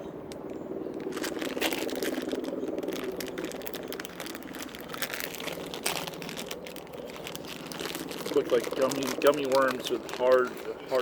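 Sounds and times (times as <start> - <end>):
plastic bag crinkling: 0.9 - 11.0.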